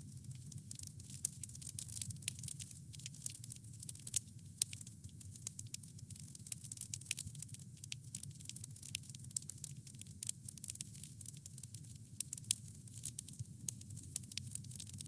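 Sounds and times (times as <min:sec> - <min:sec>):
campfire crackling and popping: 0:00.1 - 0:15.0.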